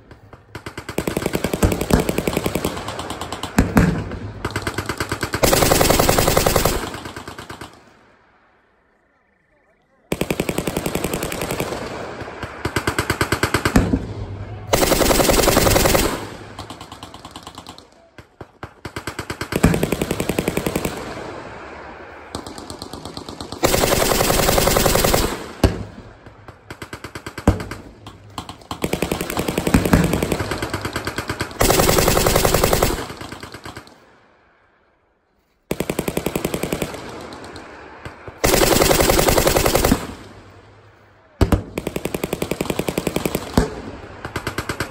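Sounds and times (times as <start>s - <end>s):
machine guns firing bursts: 0.1s - 7.9s, 10.1s - 14.0s, 14.7s - 21.4s, 22.3s - 34.0s, 35.7s - 40.6s, 41.4s - 44.9s.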